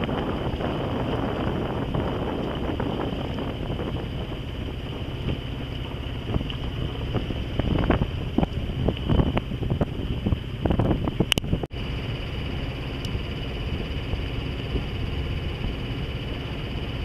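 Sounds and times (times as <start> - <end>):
steady low rumble: 0.0 - 17.0
wind buffeting microphone: 0.0 - 17.0.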